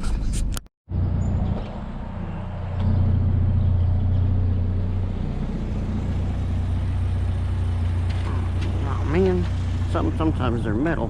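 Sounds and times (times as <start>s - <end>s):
pickup truck engine hum: 0.9s - 11.0s
road noise: 0.9s - 11.0s.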